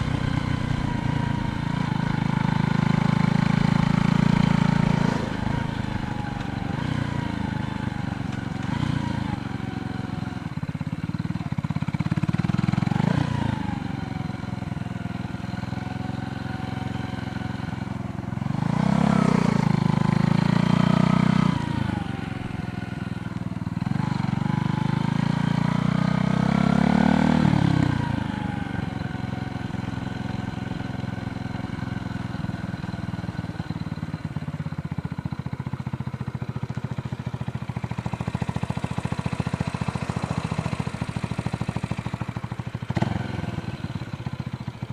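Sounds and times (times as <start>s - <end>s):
vehicles passing on a road: 0.0s - 44.9s.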